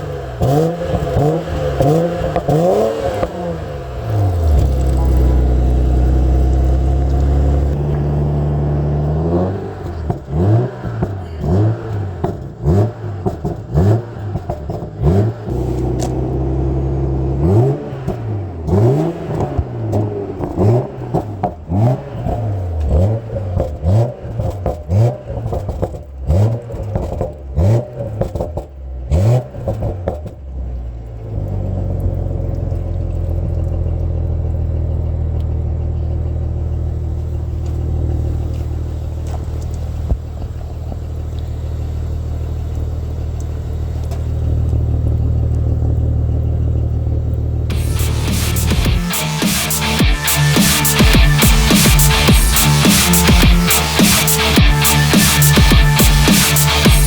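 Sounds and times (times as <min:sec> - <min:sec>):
car engine idling: 0:00.0 - 0:57.0
engine revving in throttle blips: 0:00.0 - 0:57.0.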